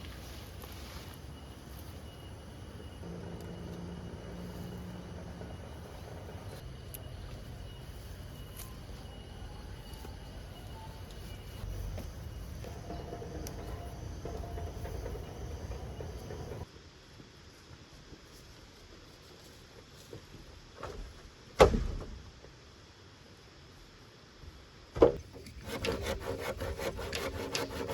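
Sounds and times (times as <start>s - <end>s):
insects droning: 0.0s - 18.9s, 22.2s - 27.9s.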